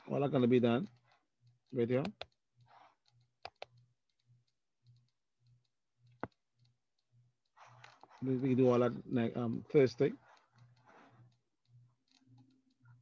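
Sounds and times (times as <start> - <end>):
computer mouse clicks: 0.4 - 8.9, 10.0 - 13.0.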